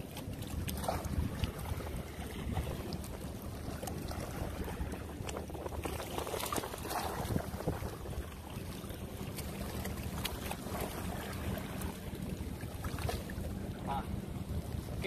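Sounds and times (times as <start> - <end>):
water lapping against rocks: 0.0 - 15.0
wind on microphone: 0.0 - 15.0.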